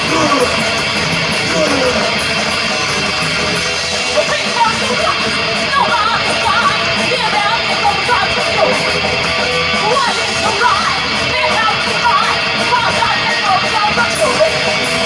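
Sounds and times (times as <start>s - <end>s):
heavy metal band playing: 0.0s - 15.0s.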